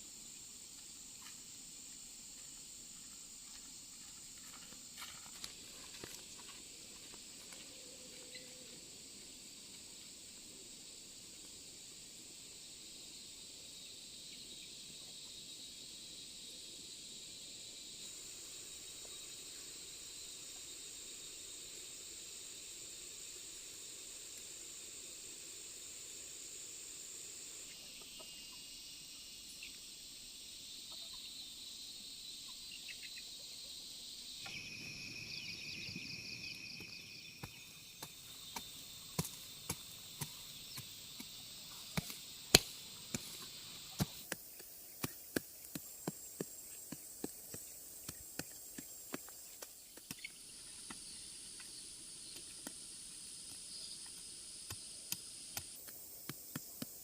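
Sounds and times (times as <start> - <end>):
crickets chirring: 0.0 - 57.0
pulsing insect call: 0.0 - 57.0.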